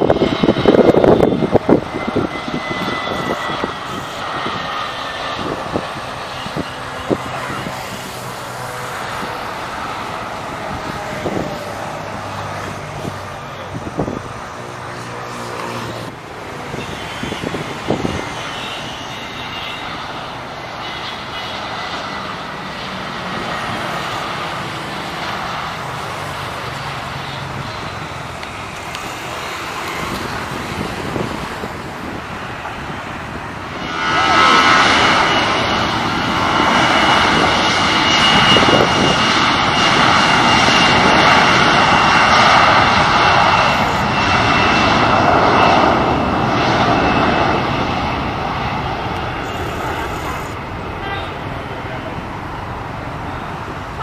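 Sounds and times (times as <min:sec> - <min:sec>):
jet engine loud whine: 0:00.0 - 0:54.0
jet engines rumbling: 0:00.0 - 0:54.0.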